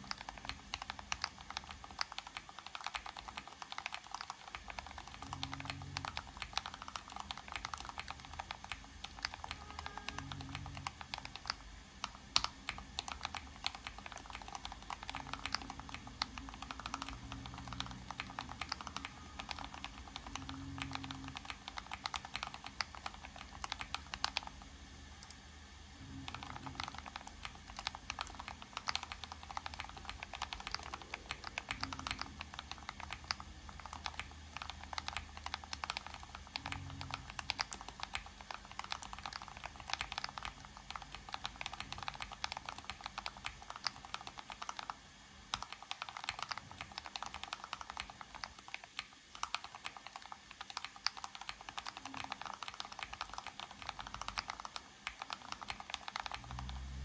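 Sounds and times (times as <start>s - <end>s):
mechanical keyboard typing: 0.0s - 25.4s, 26.0s - 57.0s.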